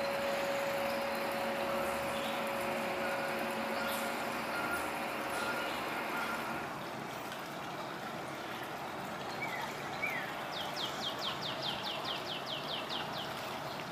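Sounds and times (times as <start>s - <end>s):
steady outdoor hiss: 0.0s - 13.9s.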